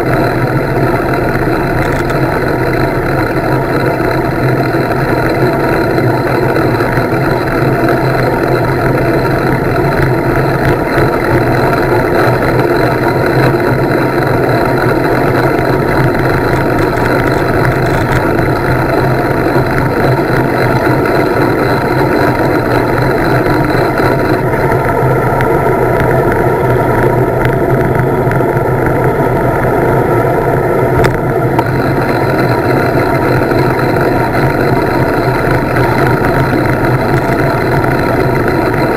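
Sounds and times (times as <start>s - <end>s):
tyres humming on asphalt: 0.0s - 38.9s.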